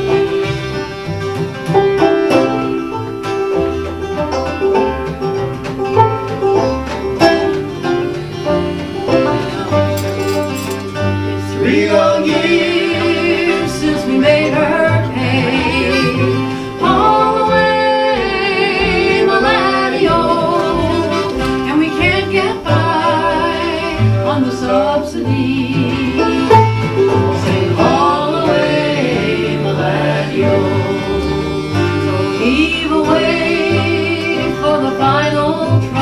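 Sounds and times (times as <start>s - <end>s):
acoustic folk band playing: 0.0s - 36.0s.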